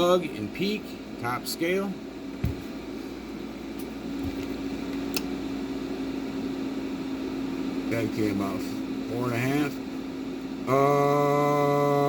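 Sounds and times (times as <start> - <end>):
electrical hum: 0.0 - 12.0
fan noise: 0.0 - 12.0.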